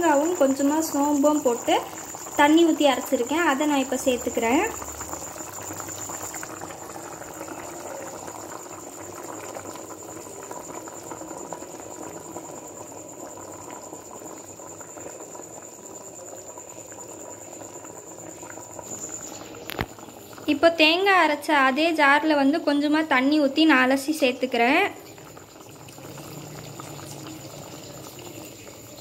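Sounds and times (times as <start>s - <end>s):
curry bubbling and popping: 0.0s - 29.0s.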